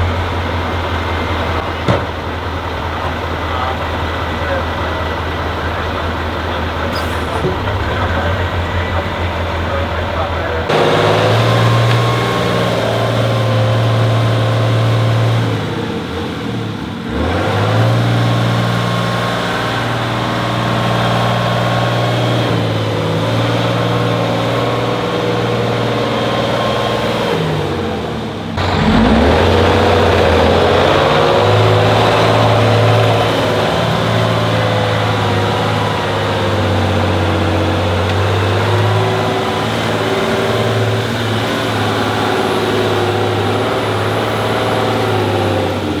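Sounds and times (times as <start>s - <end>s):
diesel truck engine under load: 0.0s - 46.0s.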